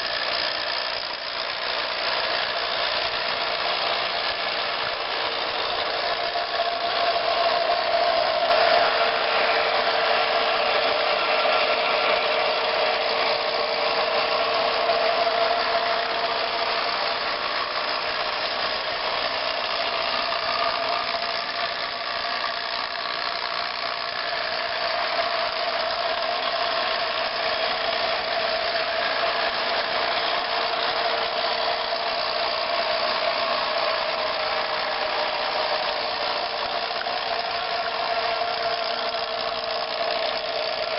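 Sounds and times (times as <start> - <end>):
mechanical hum: 0.0 - 40.9
motor whining: 0.0 - 40.9.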